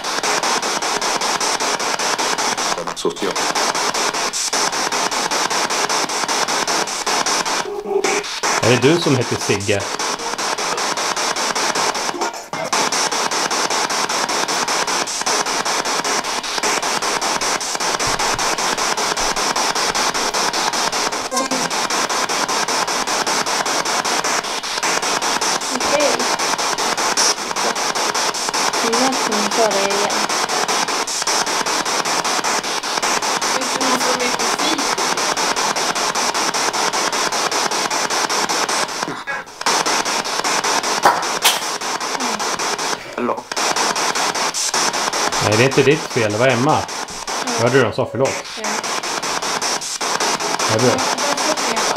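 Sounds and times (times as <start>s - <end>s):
radio static hiss: 0.0s - 51.9s.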